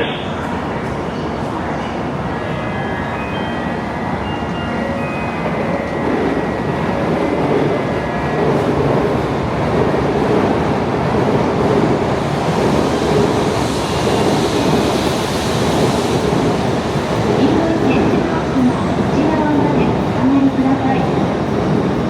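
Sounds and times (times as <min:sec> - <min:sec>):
train running past: 0:00.0 - 0:22.0.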